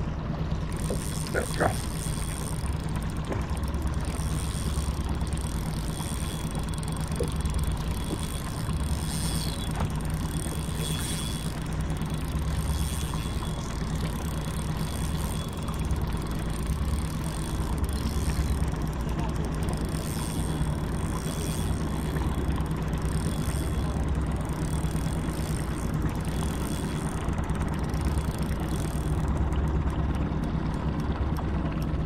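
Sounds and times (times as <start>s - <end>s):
boat motor humming: 0.0s - 32.0s.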